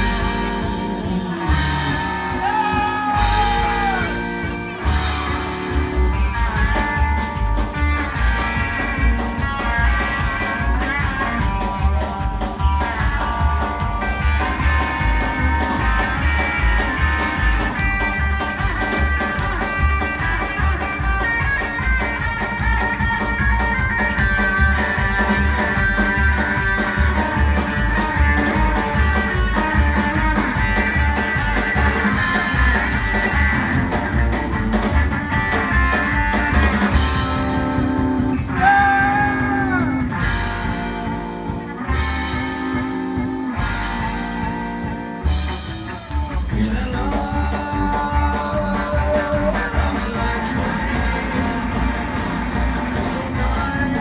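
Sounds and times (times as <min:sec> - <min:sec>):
rockabilly band instrumental: 0:00.0 - 0:54.0.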